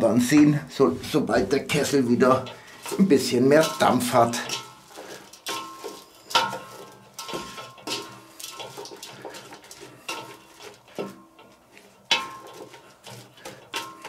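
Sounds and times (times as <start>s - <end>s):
wooden spoon knocking metal pot: 0.0s - 14.0s.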